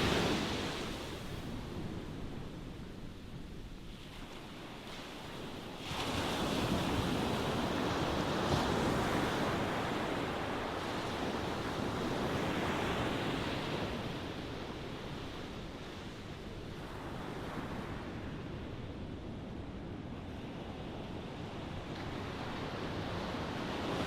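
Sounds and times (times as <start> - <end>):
ocean waves washing onto shore: 0.0 - 24.0.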